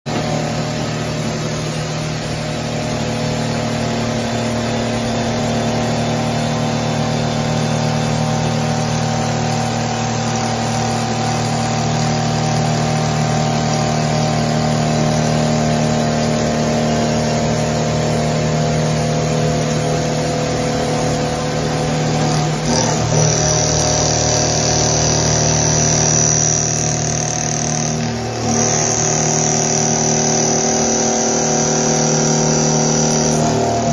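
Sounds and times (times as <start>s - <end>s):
milling machine hum: 0.1s - 33.9s.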